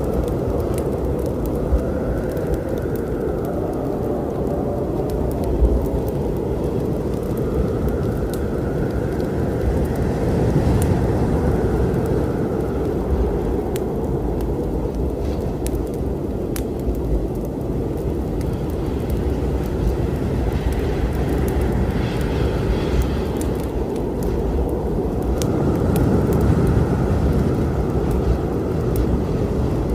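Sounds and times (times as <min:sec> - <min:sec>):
low storm rumble: 0:00.0 - 0:29.9
wood fire crackling and popping: 0:00.0 - 0:29.9.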